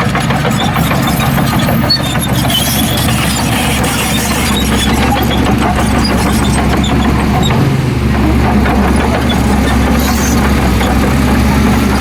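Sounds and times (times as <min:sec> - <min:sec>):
diesel machinery engine drone: 0:00.0 - 0:12.0.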